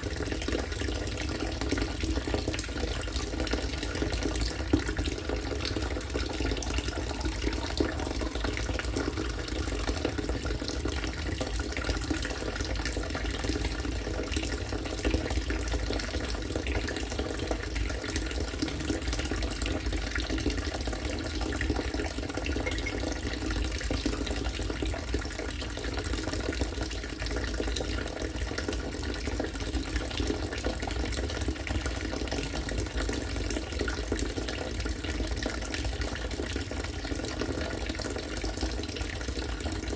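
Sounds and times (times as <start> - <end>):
rainwater pouring into container: 0.0 - 39.9.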